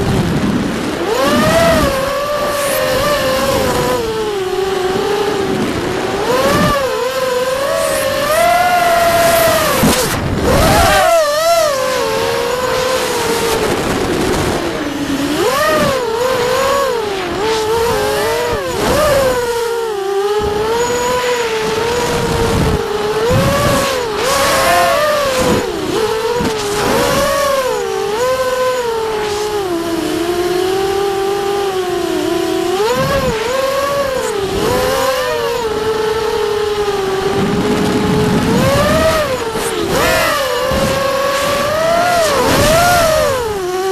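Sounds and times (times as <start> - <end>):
drone motors and propellers whining: 0.0 - 43.9.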